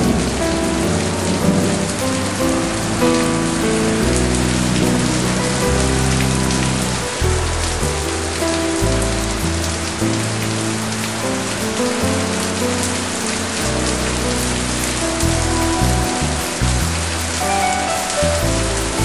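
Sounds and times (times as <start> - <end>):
heavy rain on hard surfaces: 0.0 - 19.0
held low musical chords: 0.0 - 19.0.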